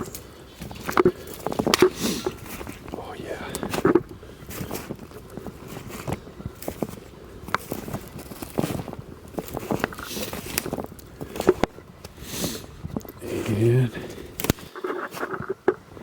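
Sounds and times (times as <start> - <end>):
footsteps crunching through snow: 0.0 - 15.5
cracks and rustles: 0.0 - 16.0.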